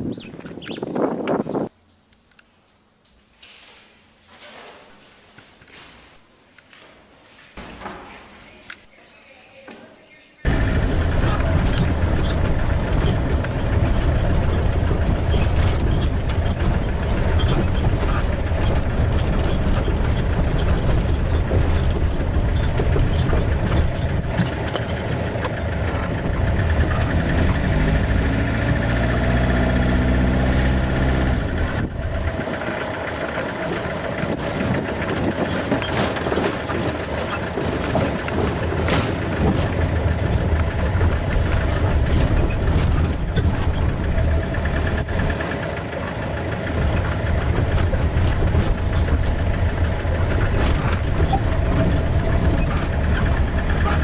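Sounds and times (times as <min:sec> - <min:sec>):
vehicle engine rumbling: 0:10.4 - 0:54.0.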